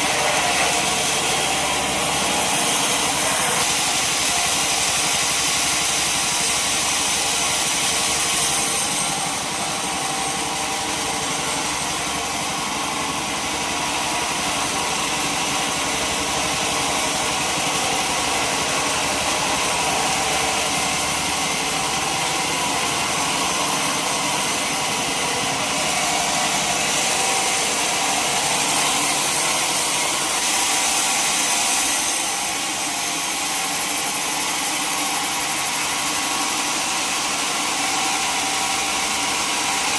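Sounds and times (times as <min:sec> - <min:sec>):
sawmill engine and saw hissing: 0:00.0 - 0:39.9.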